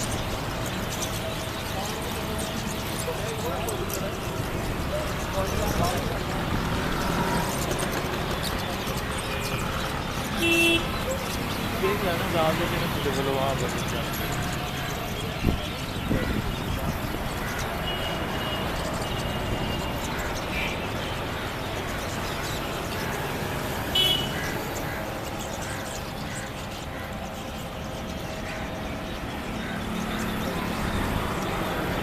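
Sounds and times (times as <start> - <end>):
bird chirps: 0.0 - 32.0
distant road traffic: 0.0 - 32.0.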